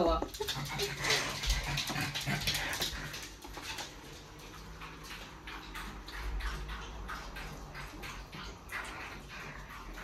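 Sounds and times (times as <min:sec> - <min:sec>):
dog moving about indoors: 0:00.0 - 0:10.0.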